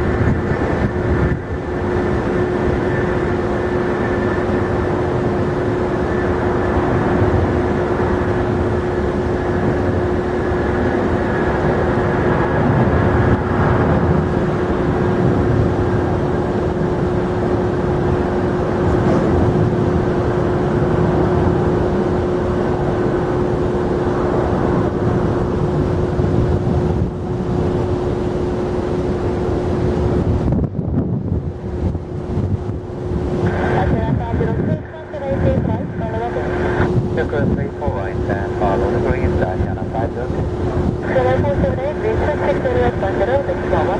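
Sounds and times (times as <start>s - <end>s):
jet engines roaring and whining: 0.0s - 43.9s.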